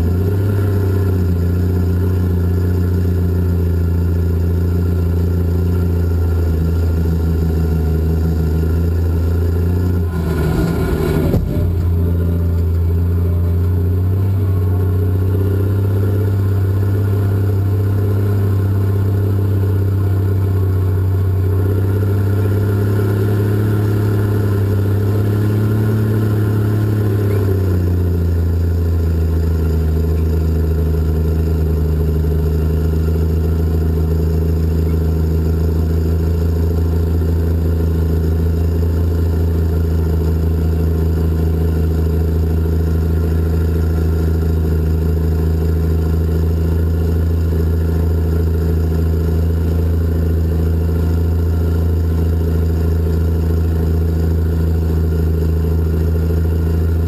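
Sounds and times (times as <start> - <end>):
diesel engine running loud: 0.0 - 57.0.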